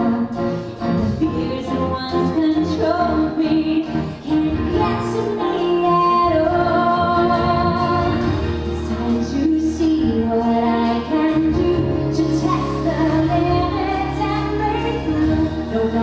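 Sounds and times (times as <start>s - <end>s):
instrumental backing: 0.0s - 16.0s.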